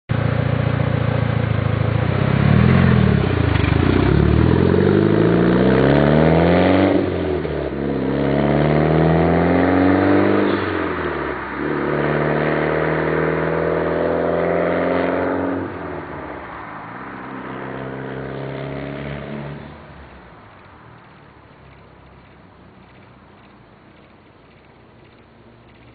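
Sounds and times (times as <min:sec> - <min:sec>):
turbocharged car engine accelerating: 0:00.1 - 0:25.9.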